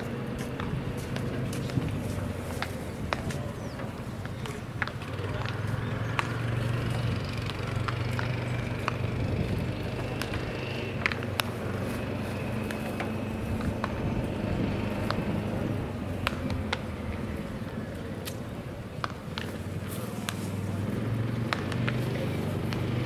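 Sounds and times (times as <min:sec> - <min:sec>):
small engine humming: 0:00.0 - 0:23.0.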